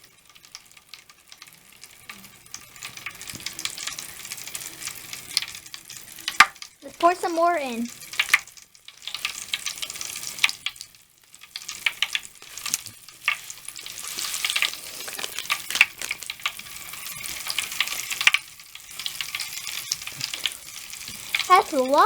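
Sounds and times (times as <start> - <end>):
bath crackles popping and fizzing: 0.0 - 22.0.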